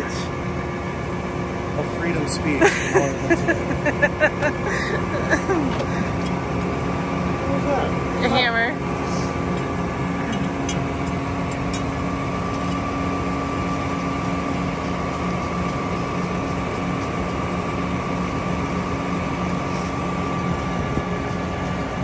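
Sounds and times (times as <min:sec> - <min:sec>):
tractor diesel engine idling: 0:01.1 - 0:22.0.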